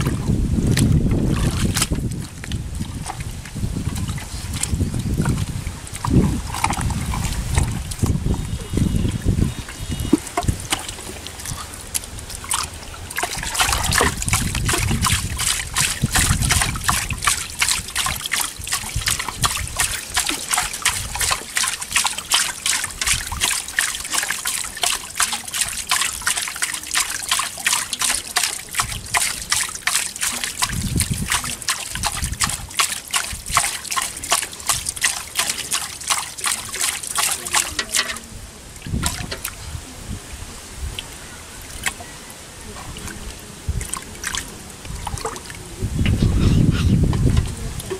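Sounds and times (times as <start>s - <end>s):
hand splashing in muddy water: 0.0s - 38.3s, 38.9s - 39.6s.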